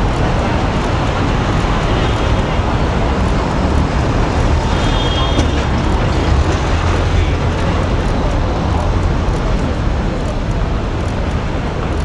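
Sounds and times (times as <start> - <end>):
steady traffic: 0.0 - 12.0
voices: 0.0 - 12.0.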